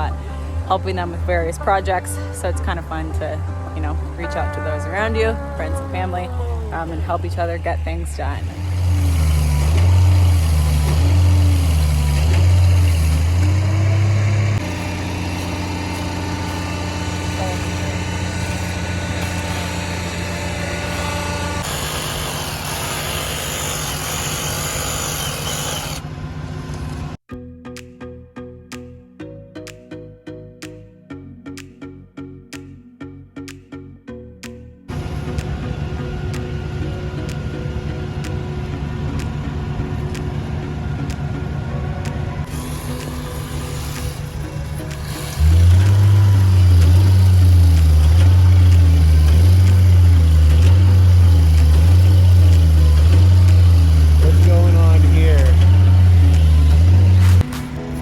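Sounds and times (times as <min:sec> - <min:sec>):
plucked music: 0:00.0 - 0:21.7, 0:27.3 - 0:58.0
heavy engine running: 0:00.0 - 0:27.2, 0:34.9 - 0:58.0.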